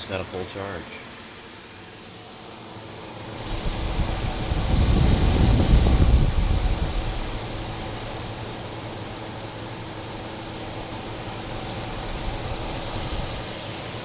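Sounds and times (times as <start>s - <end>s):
compressor low hum: 0.0s - 14.0s
dehumidifier fan rushing: 0.0s - 14.0s.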